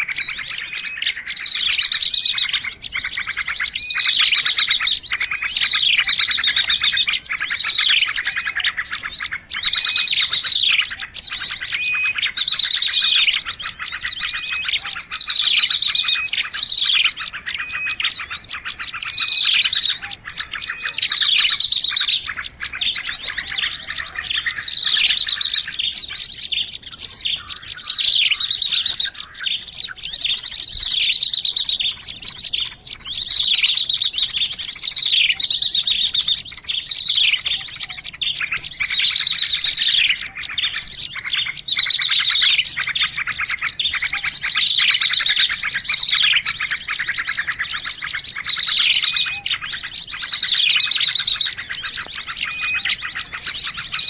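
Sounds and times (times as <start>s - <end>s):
fast high bird trill: 0.0s - 54.0s
small birds chirping and twittering: 0.0s - 54.0s.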